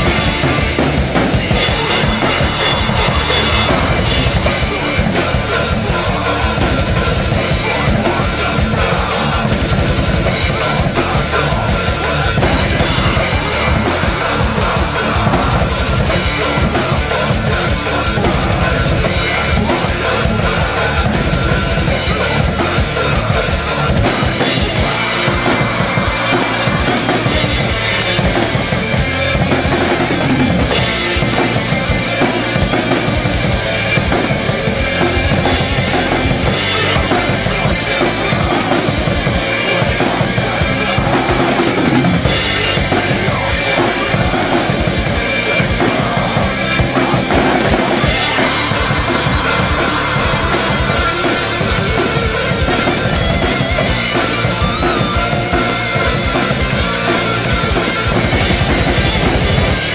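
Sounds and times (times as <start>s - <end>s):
double bass drum: 0.0s - 59.9s.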